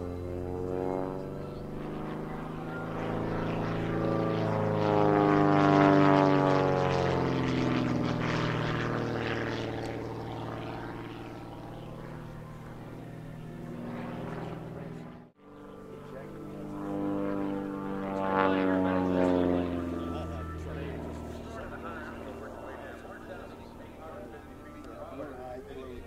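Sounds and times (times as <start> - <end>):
propeller plane engine droning overhead: 0.0 - 26.0.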